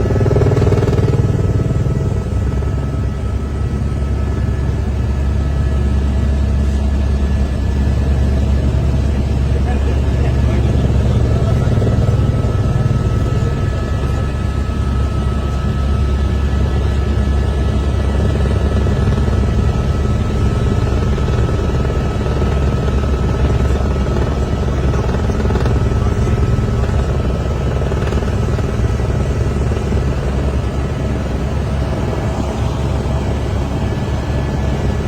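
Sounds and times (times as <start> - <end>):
helicopter rotor chopping: 0.0 - 35.0
turbine high whine: 0.0 - 35.0.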